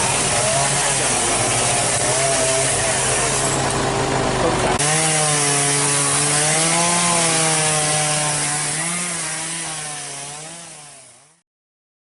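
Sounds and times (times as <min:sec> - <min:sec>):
chainsaw cutting wood: 0:00.0 - 0:11.4.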